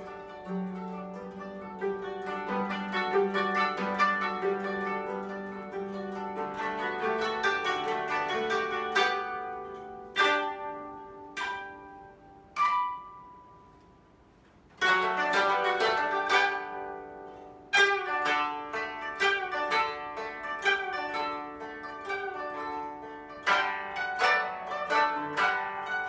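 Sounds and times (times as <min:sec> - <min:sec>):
koto ensemble plucking: 0:00.0 - 0:26.0.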